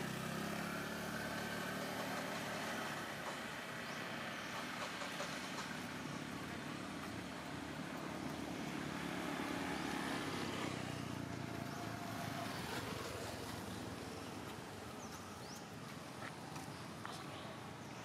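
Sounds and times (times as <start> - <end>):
vehicle engine running: 0.0 - 17.9.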